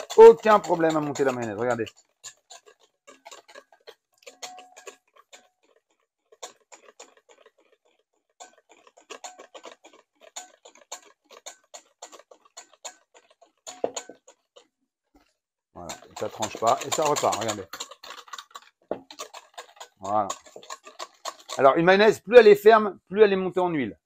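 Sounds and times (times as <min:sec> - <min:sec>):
whisk clicking against bowl: 0:00.0 - 0:14.7, 0:15.8 - 0:22.7.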